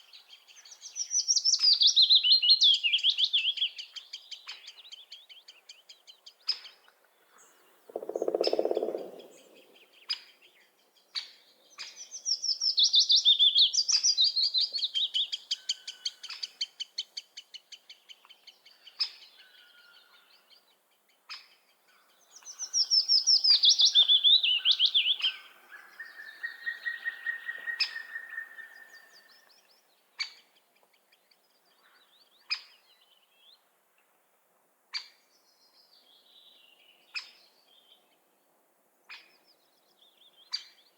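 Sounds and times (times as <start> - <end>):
songbirds singing: 0.0 - 33.7, 39.0 - 40.9.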